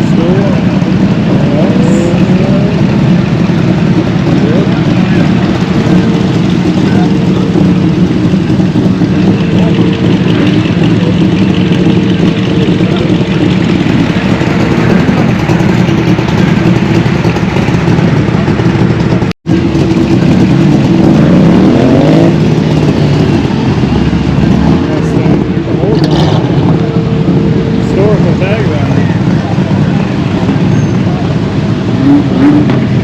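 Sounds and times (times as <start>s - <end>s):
vehicle engines idling: 0.0s - 33.0s.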